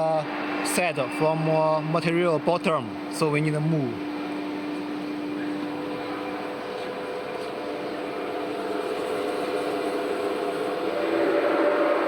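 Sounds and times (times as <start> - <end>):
router motors humming: 0.0 - 12.0
whining motor tones: 0.0 - 12.0.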